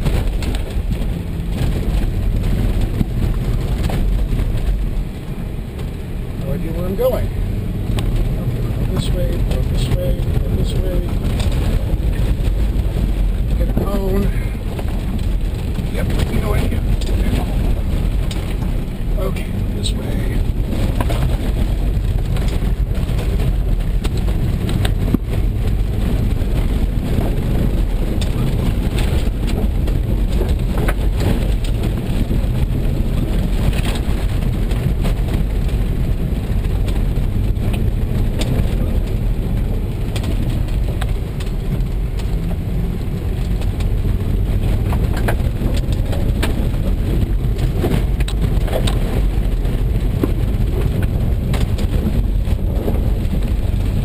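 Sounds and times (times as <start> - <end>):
car engine running hard: 0.0 - 54.0
gravel pelting car underbody: 0.0 - 54.0.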